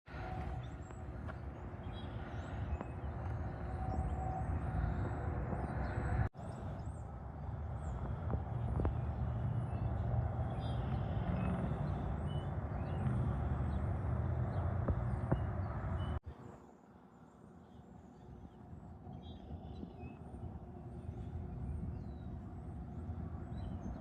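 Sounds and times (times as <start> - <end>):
rumble of passing trucks and cars: 0.1 - 24.0.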